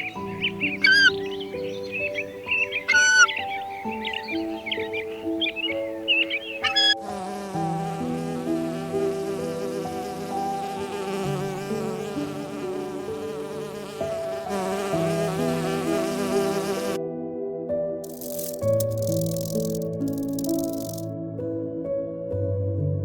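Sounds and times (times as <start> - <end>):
insects buzzing: 0.0 - 17.0, 18.1 - 21.1
soft instrumental music: 0.0 - 23.0.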